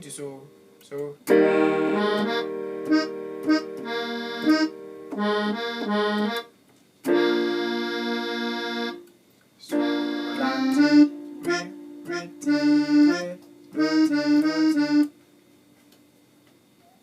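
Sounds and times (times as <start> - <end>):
electronic keyboard organ chords: 0.0 - 15.4.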